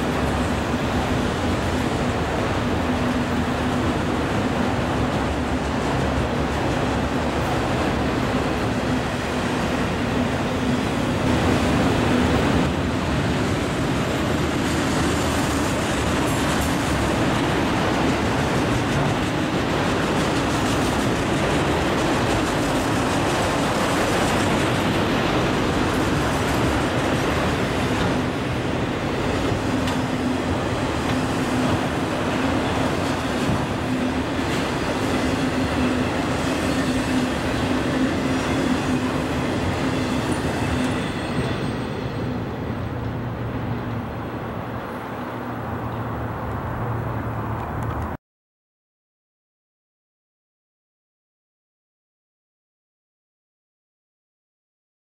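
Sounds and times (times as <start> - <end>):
steel wheels roaring on rail: 0.0 - 48.2.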